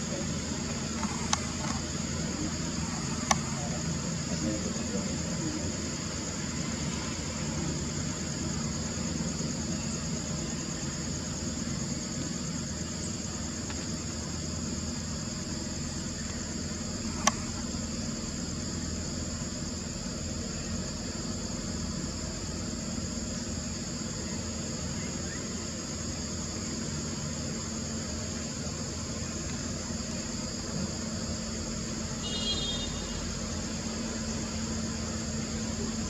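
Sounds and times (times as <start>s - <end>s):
insect drone: 0.0s - 36.0s.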